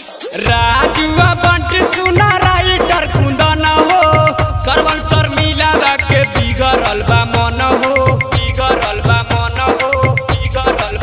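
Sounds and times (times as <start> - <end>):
song with drum and bass beat: 0.0 - 11.0.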